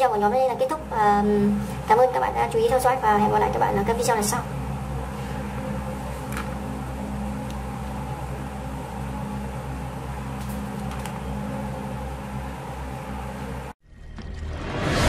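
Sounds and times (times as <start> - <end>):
low background hum: 0.0 - 13.8.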